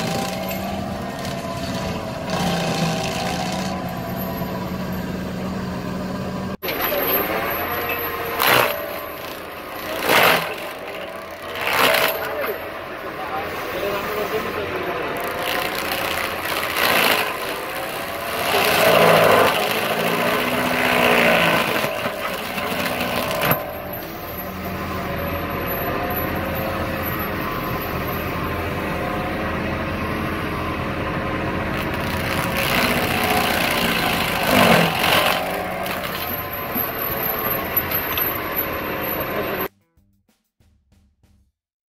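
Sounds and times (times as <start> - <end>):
stump grinder cutting wood: 0.0 - 39.7
diesel engine running: 0.0 - 41.5.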